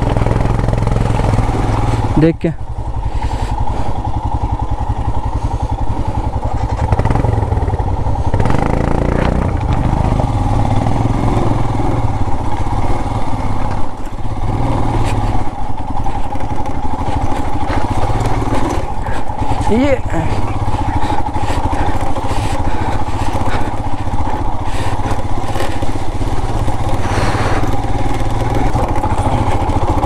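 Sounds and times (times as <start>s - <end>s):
motorcycle engine under load: 0.0s - 30.0s.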